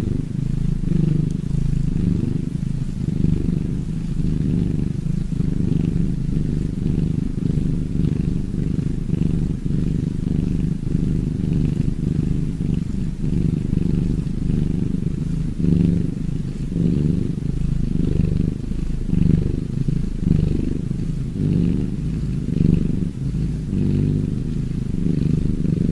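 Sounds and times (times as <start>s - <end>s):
cat purring: 0.0s - 25.9s.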